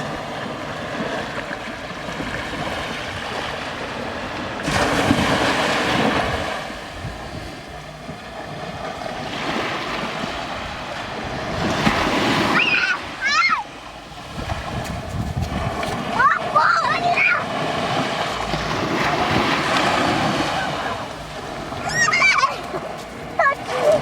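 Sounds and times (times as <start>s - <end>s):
ocean surf washing on beach: 0.0s - 24.0s
wind buffeting microphone: 0.0s - 24.0s.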